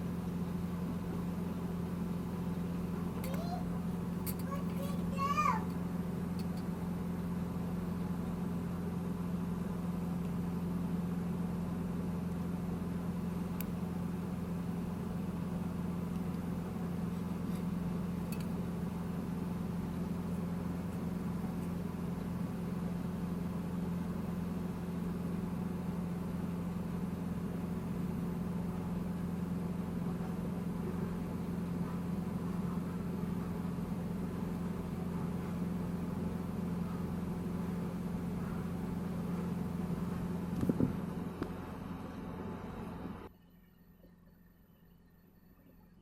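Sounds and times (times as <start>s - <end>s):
low background hum: 0.0s - 46.0s.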